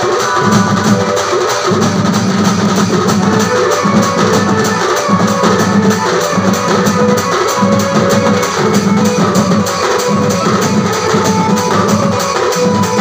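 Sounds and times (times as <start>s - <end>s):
band melody line: 0.0s - 13.0s
fast drum beat: 0.0s - 13.0s
metal percussion strikes: 0.0s - 13.0s.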